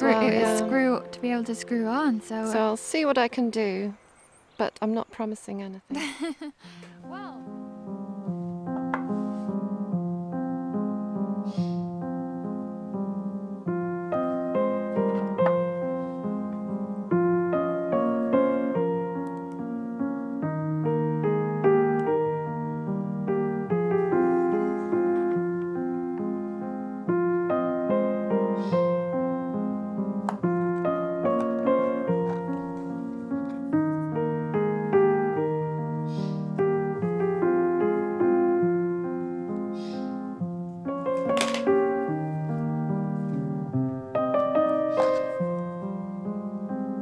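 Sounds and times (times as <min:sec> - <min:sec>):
slow piano music: 0:00.0 - 0:04.3, 0:06.6 - 0:47.0.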